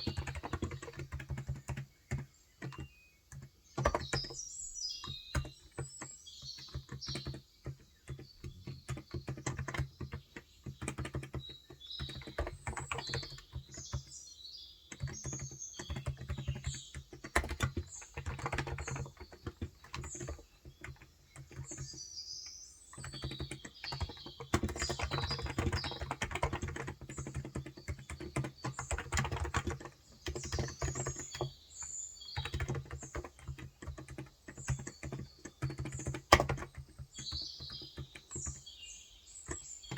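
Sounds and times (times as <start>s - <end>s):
typing on keyboard: 0.0s - 14.2s, 14.9s - 22.1s, 22.9s - 39.9s
birds chirping: 0.0s - 39.9s.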